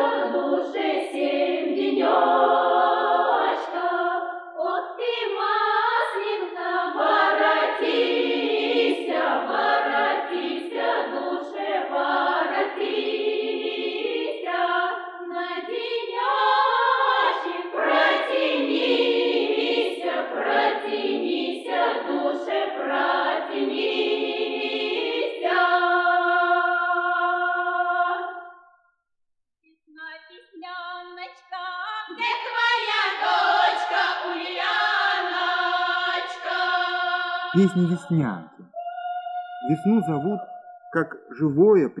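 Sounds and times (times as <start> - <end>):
women singing unaccompanied folk song: 0.0 - 28.5, 30.0 - 37.6.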